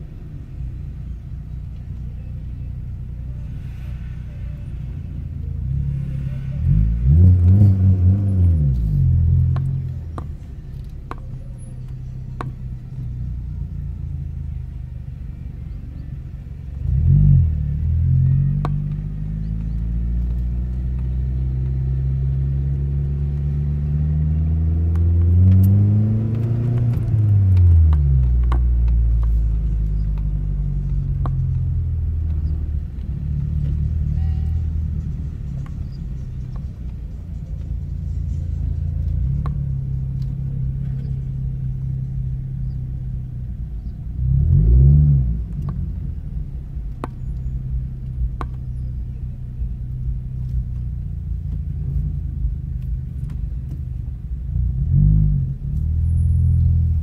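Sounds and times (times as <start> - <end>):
car engine revving: 3.7 - 10.3, 16.7 - 57.0.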